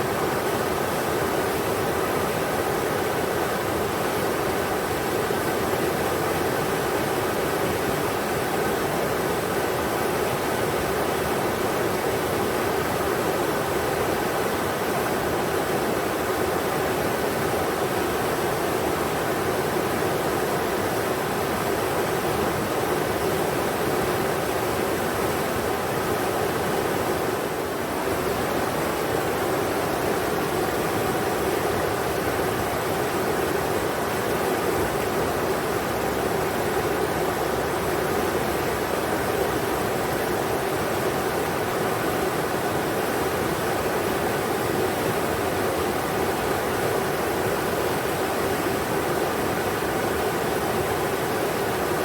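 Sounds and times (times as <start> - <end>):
river flowing over rocks: 0.0 - 52.0.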